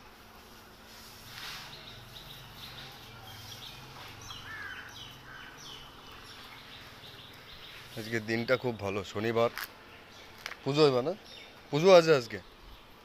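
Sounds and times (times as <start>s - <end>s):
birds chirping: 1.3s - 13.0s.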